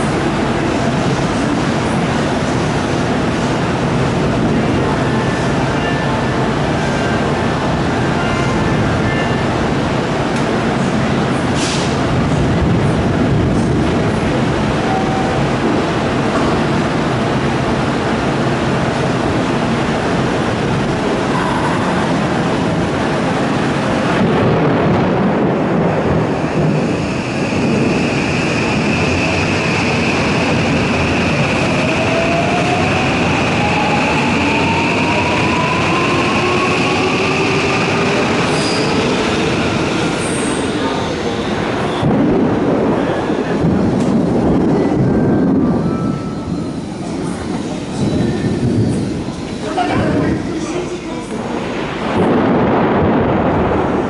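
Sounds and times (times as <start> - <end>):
steady rushing noise: 0.0 - 54.0.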